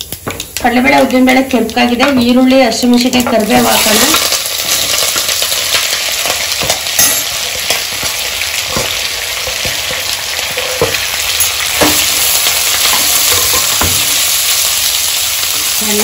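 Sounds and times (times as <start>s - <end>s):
hot oil sizzling in a pan: 0.0s - 16.0s.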